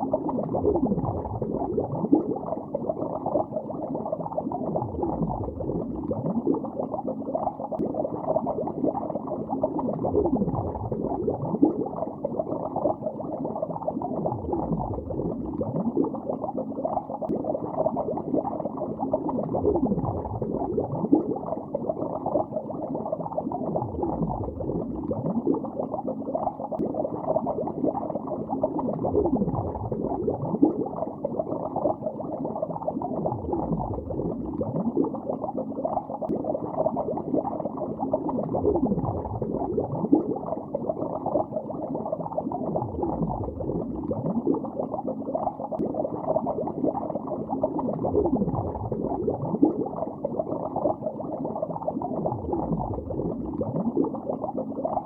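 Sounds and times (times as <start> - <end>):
muffled underwater bubbling: 0.0 - 55.0.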